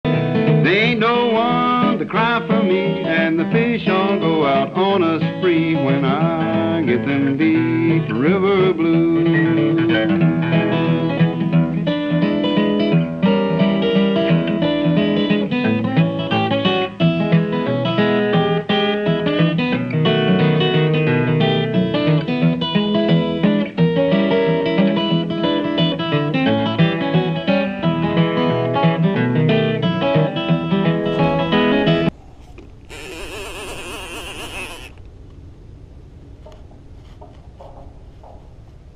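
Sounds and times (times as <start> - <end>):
guitar music with picked notes: 0.1 - 32.1.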